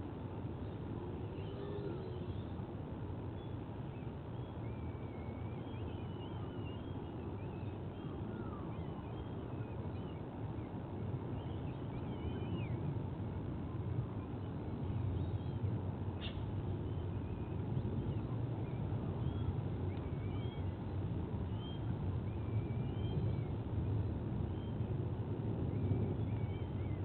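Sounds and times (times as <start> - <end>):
faint high bird chirps: 0.6 - 2.6, 3.2 - 12.8, 13.7 - 24.9.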